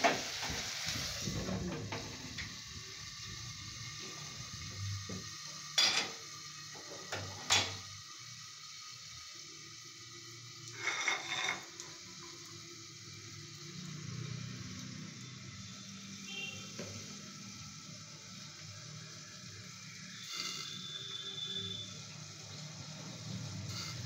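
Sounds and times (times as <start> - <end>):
food sizzling in pan: 0.0 - 24.0.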